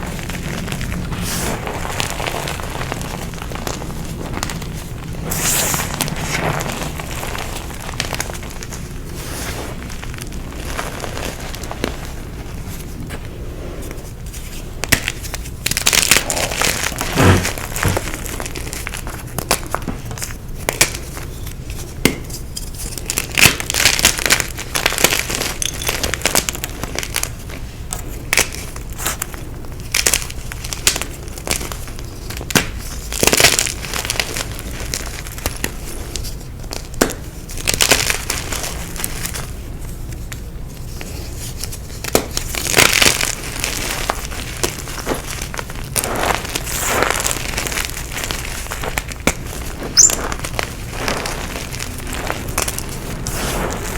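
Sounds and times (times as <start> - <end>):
chalk crunching and crackling: 0.0 - 53.9.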